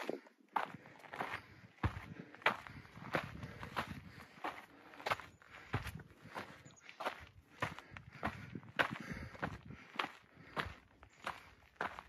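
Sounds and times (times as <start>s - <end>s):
footsteps crunching on trail: 0.0s - 12.0s.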